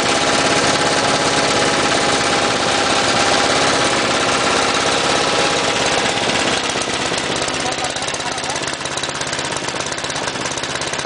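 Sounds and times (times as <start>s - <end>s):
wood chipper engine running: 0.0s - 11.0s.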